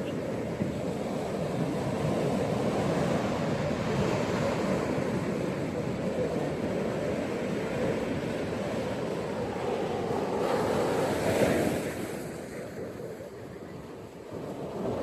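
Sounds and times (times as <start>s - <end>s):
ocean waves washing onto beach: 0.0s - 15.0s.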